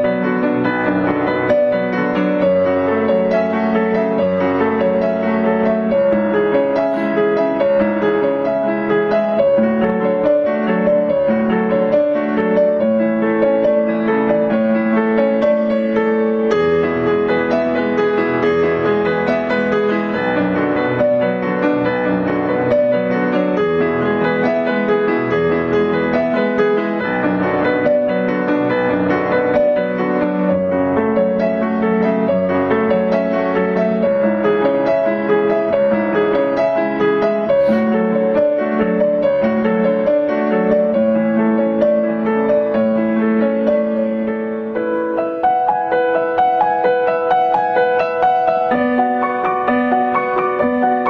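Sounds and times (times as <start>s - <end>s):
solo piano music: 0.0s - 51.0s.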